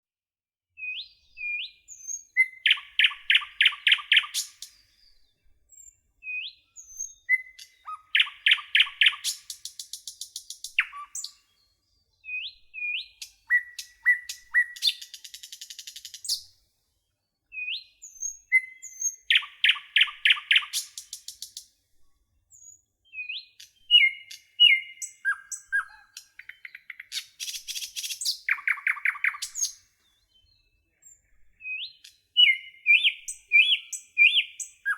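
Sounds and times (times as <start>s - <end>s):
songbird singing: 0.8s - 21.7s, 22.5s - 34.9s.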